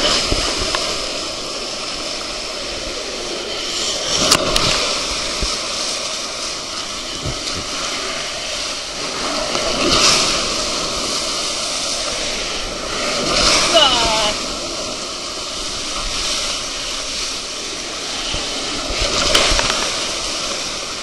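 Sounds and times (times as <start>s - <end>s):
water rushing down a slide: 0.0s - 21.0s.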